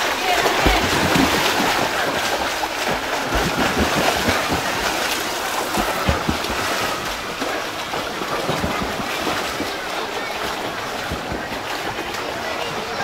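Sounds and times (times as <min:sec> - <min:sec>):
swimmers splashing: 0:00.0 - 0:13.0.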